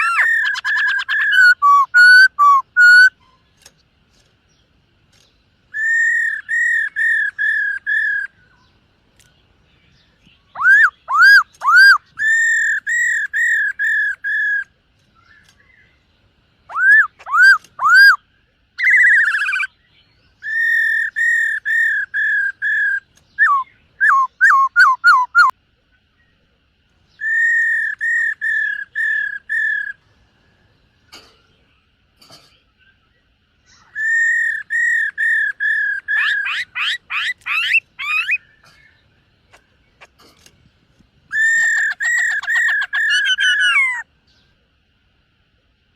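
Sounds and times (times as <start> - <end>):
bird whistling song: 0.0 - 3.7, 5.1 - 8.8, 9.8 - 25.6, 27.1 - 30.6, 32.8 - 40.1, 41.3 - 44.5.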